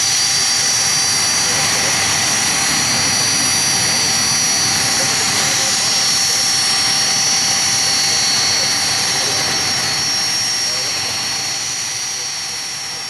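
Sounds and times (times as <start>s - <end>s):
jet engines idling with whine: 0.0s - 13.0s.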